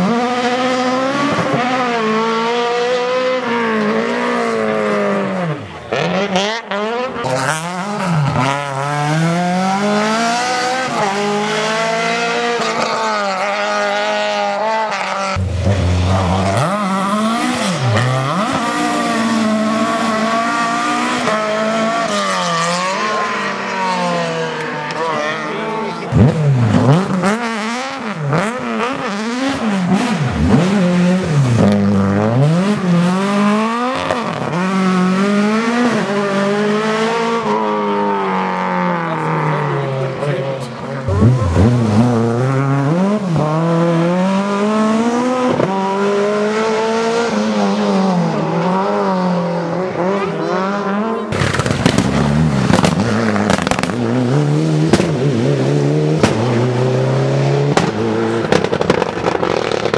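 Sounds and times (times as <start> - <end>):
rally car engines revving hard: 0.0 - 59.9.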